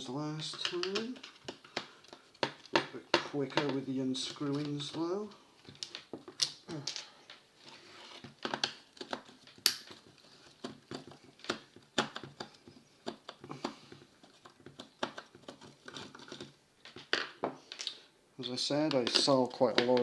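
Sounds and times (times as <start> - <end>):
plastic parts clicking and rattling: 0.4 - 7.4, 8.0 - 18.0, 18.8 - 20.0.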